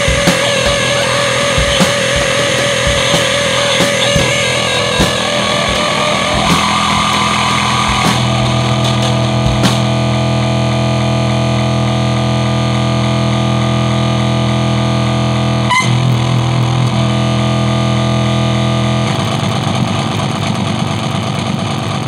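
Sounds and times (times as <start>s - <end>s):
harsh distorted noise music: 0.0s - 22.0s
pulsing distorted drone: 0.0s - 22.0s.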